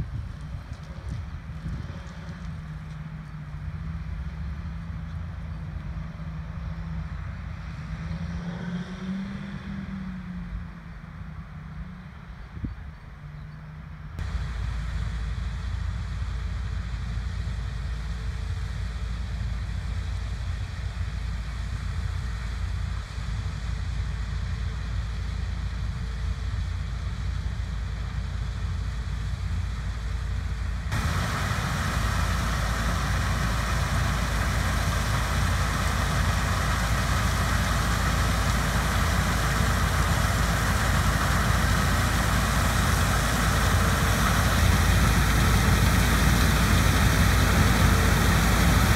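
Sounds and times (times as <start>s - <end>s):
heavy farm machinery engine rumble: 0.0s - 8.2s, 10.4s - 48.9s.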